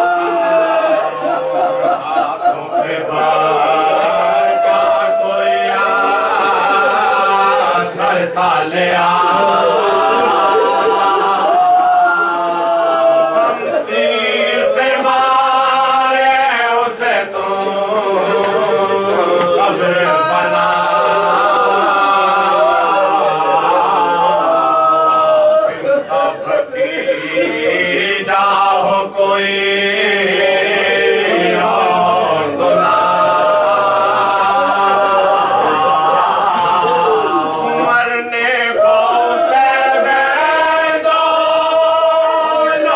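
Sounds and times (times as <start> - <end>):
men chanting: 0.0 - 42.9.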